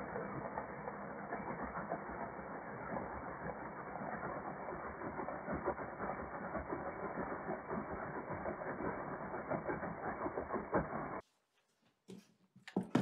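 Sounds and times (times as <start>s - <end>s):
muffled chainsaw cutting log: 0.4s - 11.2s.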